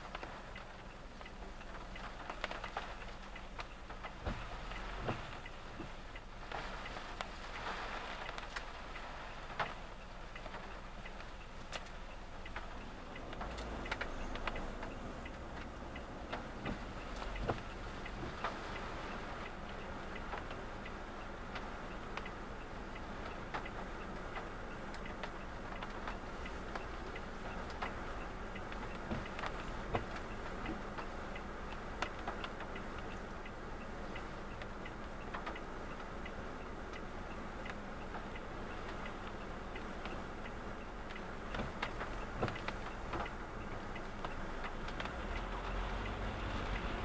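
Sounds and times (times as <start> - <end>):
car driving hum: 0.0 - 47.0
raindrops ticking on car roof: 0.0 - 47.0.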